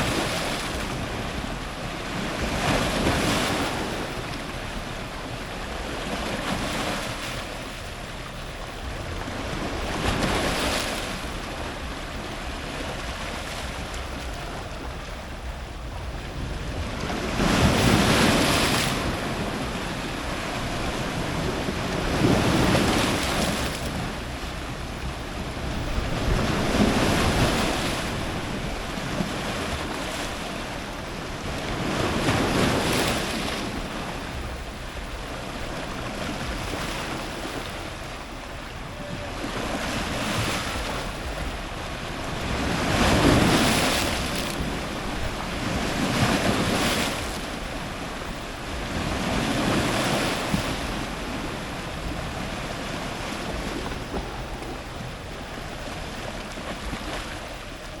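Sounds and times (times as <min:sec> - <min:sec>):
ocean surf breaking on rocks: 0:00.0 - 0:58.0.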